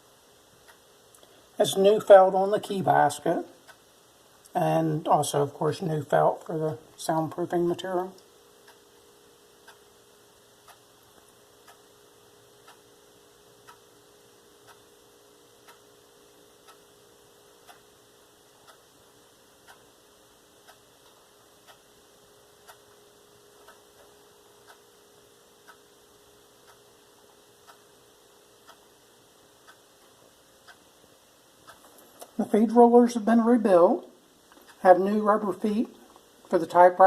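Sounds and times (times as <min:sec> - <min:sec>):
faint steady hum: 0:00.0 - 0:37.0
mechanical clock ticking: 0:00.0 - 0:37.0.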